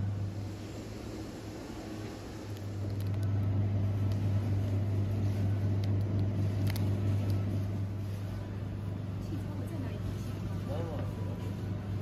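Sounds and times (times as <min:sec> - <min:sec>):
refrigerator electrical hum: 0:00.0 - 0:12.0.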